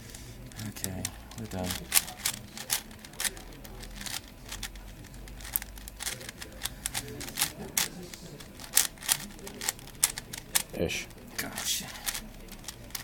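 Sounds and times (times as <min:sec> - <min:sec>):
plastic puzzle cube clicking: 0:00.6 - 0:13.0.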